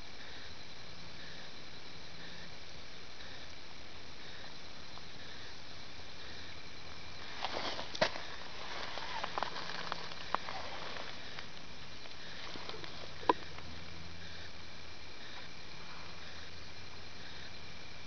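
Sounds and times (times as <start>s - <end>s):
steady faint hiss: 0.0s - 18.0s
thin high steady tones: 0.0s - 18.0s.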